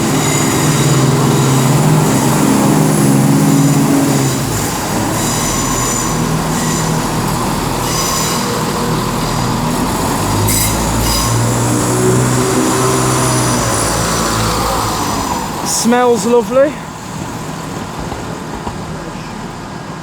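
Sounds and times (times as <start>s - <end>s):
wheels squealing on track: 0.0s - 16.3s
diesel train engines working: 0.0s - 20.0s.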